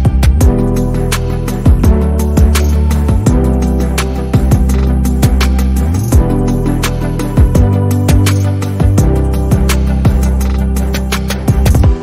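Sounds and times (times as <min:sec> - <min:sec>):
low bass line: 0:00.0 - 0:12.0.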